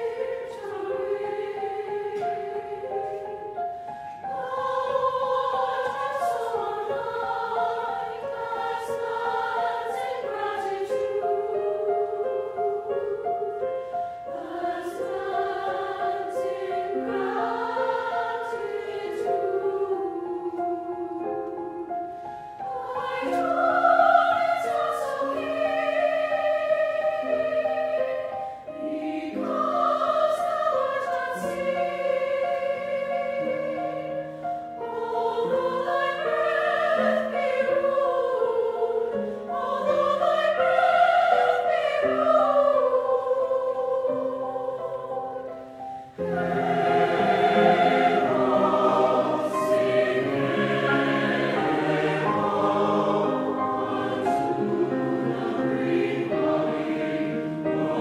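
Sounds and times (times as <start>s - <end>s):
mixed choir singing: 0.0s - 58.0s
piano accompaniment: 0.0s - 58.0s.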